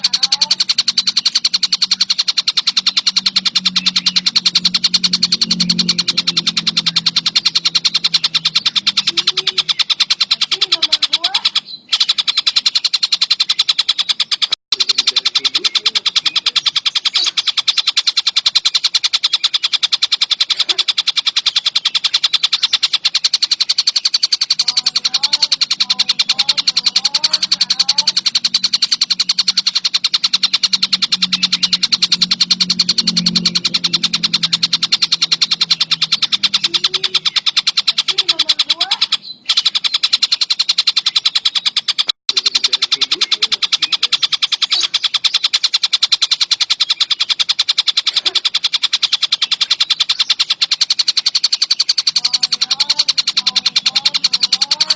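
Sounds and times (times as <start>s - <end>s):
low hum: 0.0s - 13.8s, 14.7s - 54.9s
kingfisher fast chatter: 0.0s - 54.9s.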